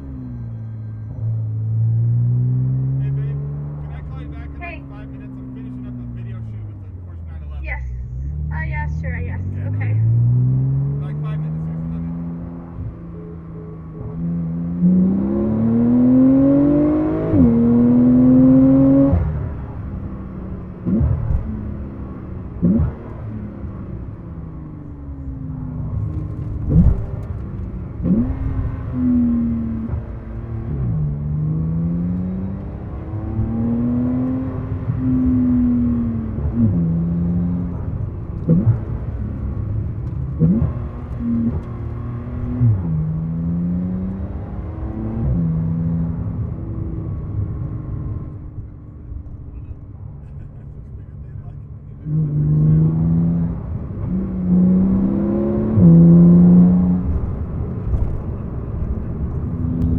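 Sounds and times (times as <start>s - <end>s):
sports car engine revving: 1.5s - 59.9s.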